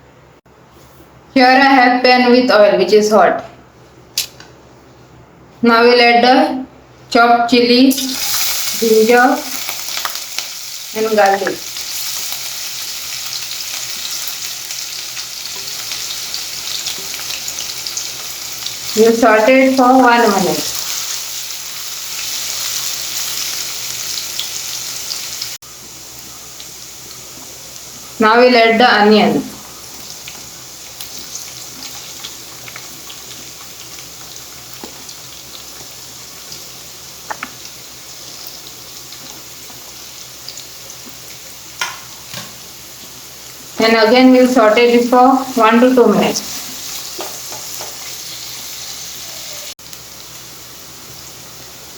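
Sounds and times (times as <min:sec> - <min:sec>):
vegetables sizzling in hot oil: 0:07.9 - 0:51.9.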